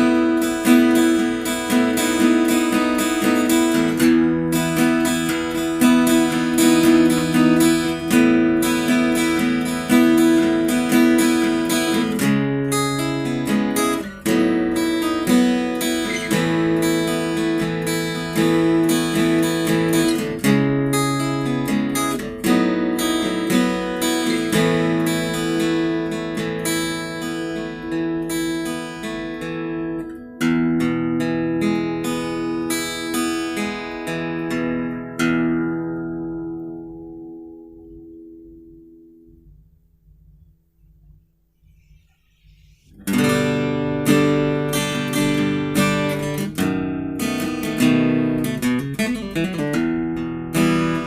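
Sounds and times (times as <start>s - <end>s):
acoustic guitar chords: 0.0s - 51.0s.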